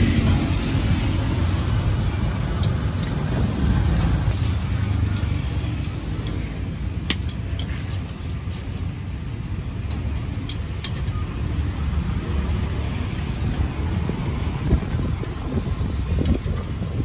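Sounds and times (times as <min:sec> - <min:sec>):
sharp clicks and clatters: 0:00.0 - 0:17.0
traffic rumble: 0:00.0 - 0:17.0.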